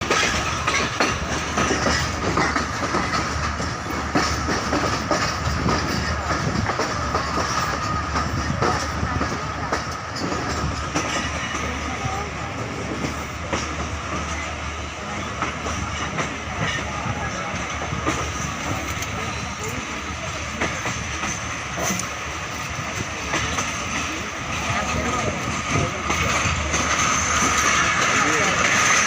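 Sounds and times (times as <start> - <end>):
train rumbling: 0.0 - 29.0
wheels clattering over rails: 0.0 - 29.0.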